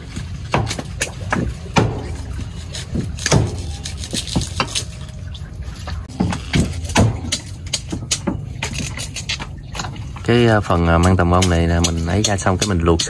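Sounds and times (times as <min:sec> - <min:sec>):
knife chopping meat and bone: 0:00.0 - 0:05.0, 0:06.0 - 0:13.0.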